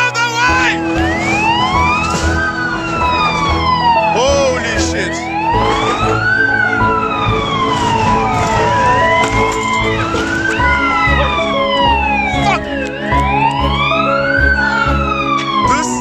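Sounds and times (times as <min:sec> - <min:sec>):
emergency sirens wailing: 0:00.0 - 0:16.0
music with held notes: 0:00.0 - 0:16.0.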